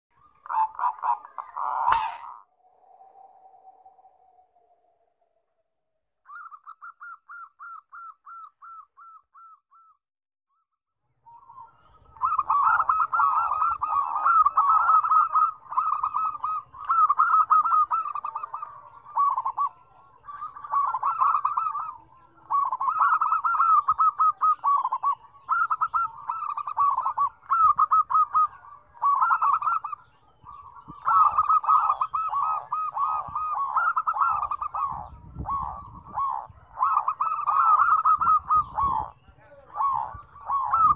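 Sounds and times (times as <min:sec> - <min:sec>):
doves cooing: 0:00.2 - 0:04.4, 0:06.3 - 0:09.9, 0:11.5 - 0:40.9.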